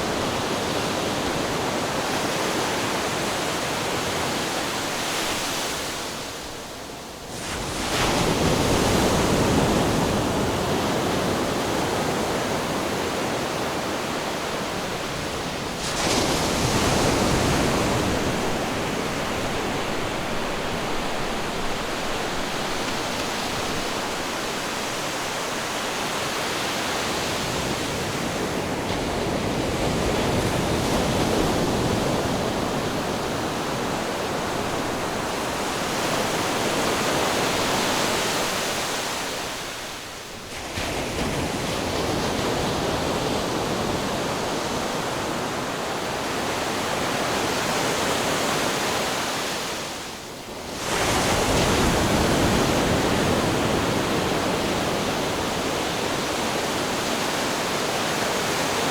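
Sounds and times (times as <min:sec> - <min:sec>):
ocean waves washing: 0:00.0 - 0:58.9.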